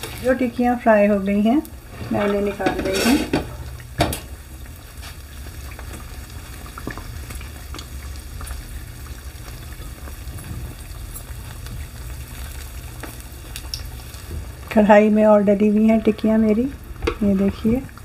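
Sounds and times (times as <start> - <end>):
deep-frying sizzle: 0.0 - 18.0.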